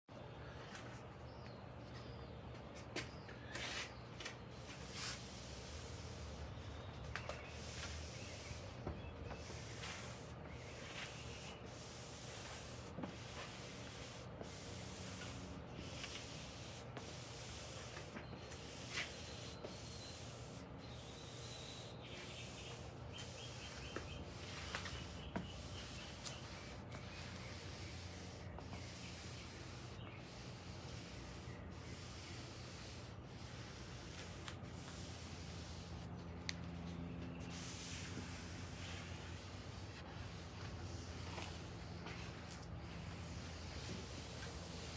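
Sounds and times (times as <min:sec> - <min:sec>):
applicator pad rubbing on tabletop: 0:04.6 - 0:44.9.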